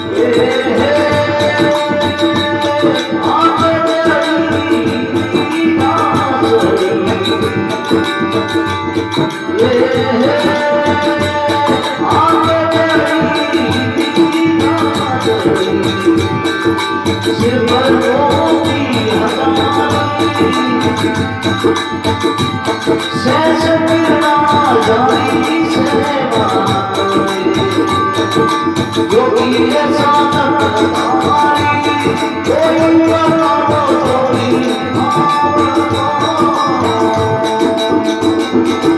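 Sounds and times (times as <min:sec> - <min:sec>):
devotional song melody: 0:00.0 - 0:38.9
drum beat: 0:00.0 - 0:38.9
jingling hand percussion: 0:00.0 - 0:38.9.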